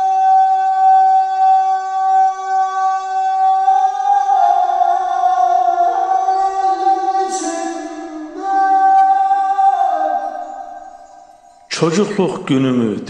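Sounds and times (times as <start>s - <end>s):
slow music with long notes: 0.0s - 11.7s
person singing: 0.0s - 13.0s.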